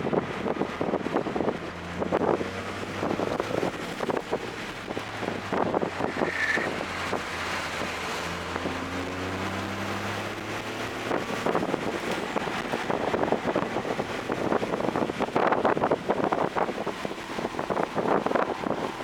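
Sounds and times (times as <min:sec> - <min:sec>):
car engine accelerating: 0:00.0 - 0:19.0
road and wind noise: 0:00.0 - 0:19.0.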